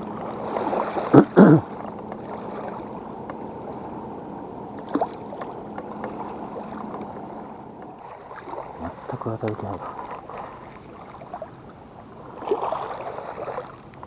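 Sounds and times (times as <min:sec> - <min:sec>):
small waves lapping on shore: 0:00.0 - 0:14.0.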